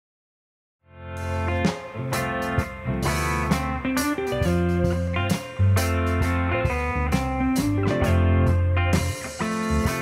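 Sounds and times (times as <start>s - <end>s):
rock band held chord: 1.2s - 10.0s.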